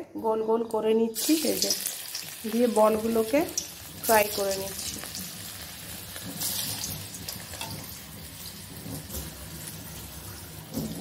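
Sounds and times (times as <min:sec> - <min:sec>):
hot oil sizzling: 0:01.2 - 0:11.0.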